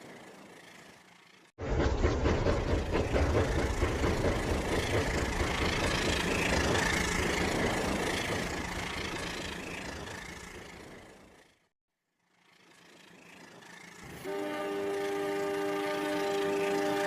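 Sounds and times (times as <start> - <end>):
toy train running on track: 0.0 - 11.6, 12.2 - 17.0.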